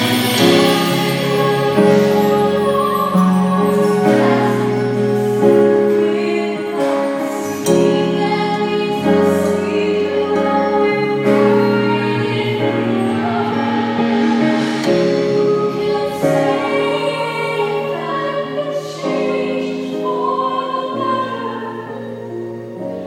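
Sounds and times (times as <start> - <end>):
musical accompaniment: 0.0 - 23.0
two women singing in harmony: 0.0 - 23.0.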